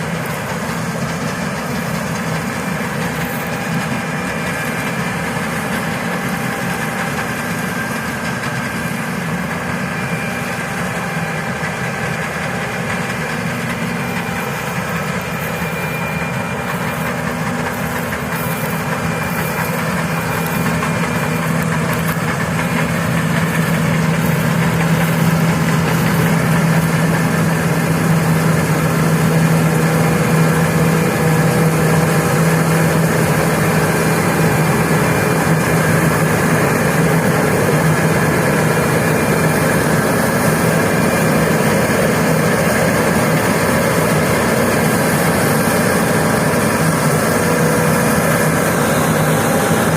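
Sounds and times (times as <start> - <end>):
machinery engine humming: 0.0 - 49.9.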